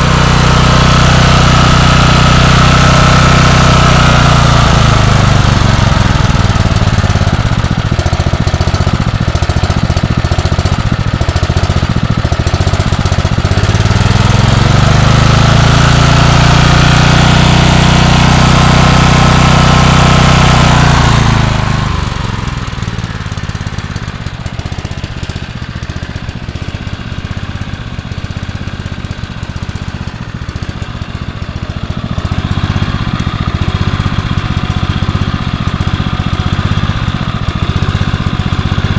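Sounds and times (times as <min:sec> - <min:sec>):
portable generator engine running: 0:00.0 - 0:38.9.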